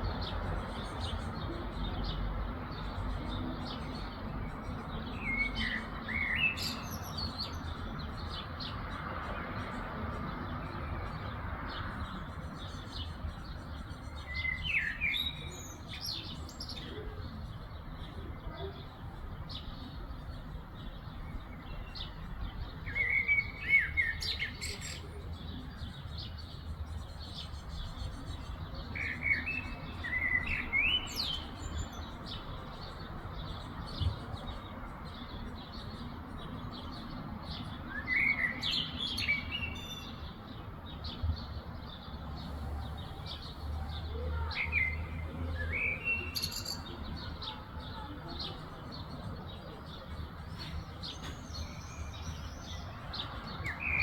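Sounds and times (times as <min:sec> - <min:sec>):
faint birds chirping: 0:00.0 - 0:54.0
songbird singing: 0:00.0 - 0:54.0.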